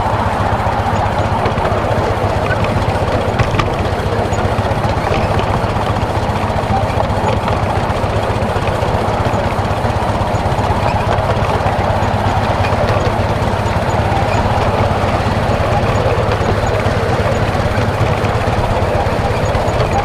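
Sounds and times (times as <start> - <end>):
steam locomotive running on track: 0.0 - 20.0.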